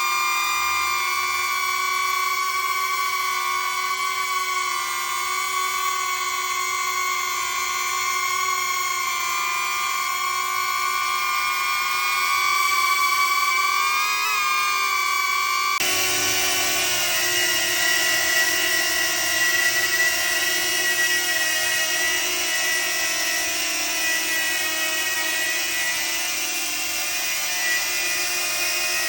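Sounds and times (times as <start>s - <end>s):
drone propellers whining: 0.0s - 29.0s.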